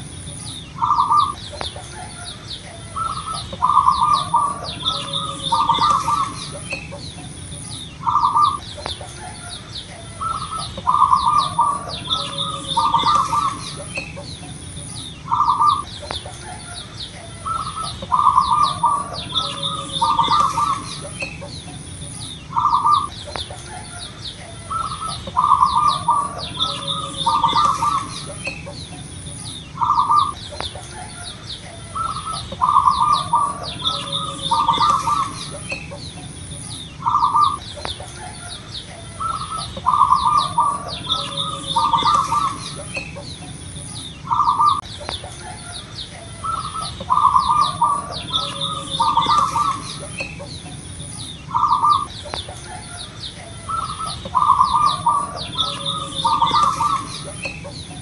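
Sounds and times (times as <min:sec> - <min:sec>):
dove cooing: 0:00.7 - 0:58.0.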